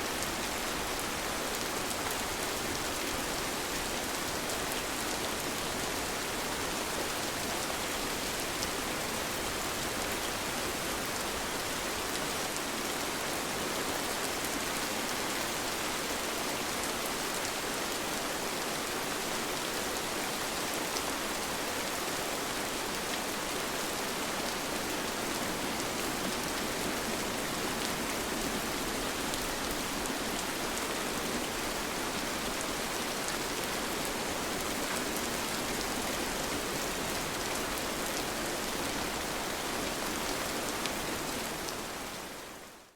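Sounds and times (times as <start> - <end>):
gentle rain falling: 0.0 - 42.9.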